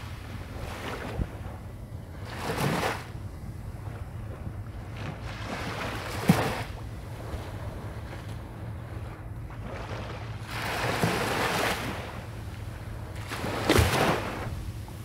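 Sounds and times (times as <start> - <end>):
small waves splashing: 0.0 - 15.0
wind rumble on microphone: 0.0 - 15.0.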